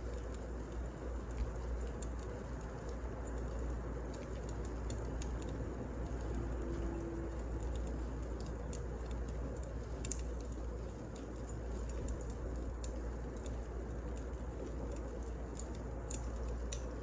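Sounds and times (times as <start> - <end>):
logs crackling and popping: 0.0 - 17.0
wood fire burning: 0.0 - 17.0.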